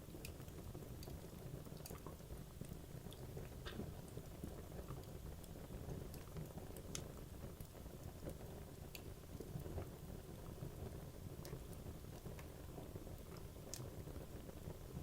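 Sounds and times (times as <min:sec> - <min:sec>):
wood crackling and popping: 0:00.0 - 0:15.0.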